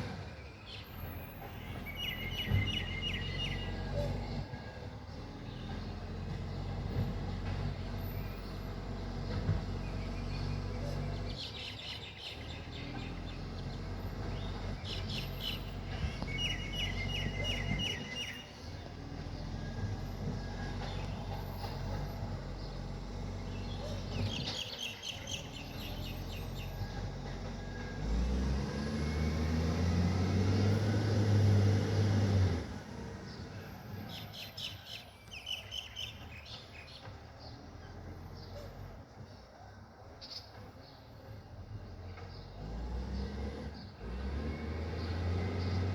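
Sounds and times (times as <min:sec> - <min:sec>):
birds chirping: 0:00.0 - 0:45.9
diesel truck engine humming: 0:00.0 - 0:45.9.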